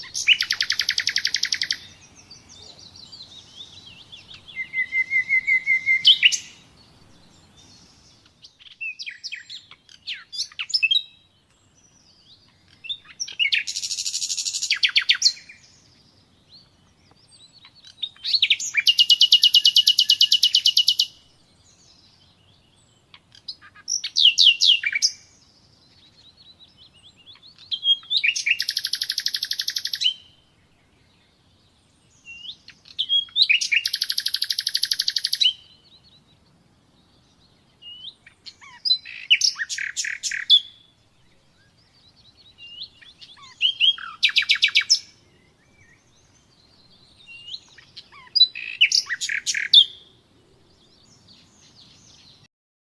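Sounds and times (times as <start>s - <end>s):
nightingale singing: 0.0s - 52.5s.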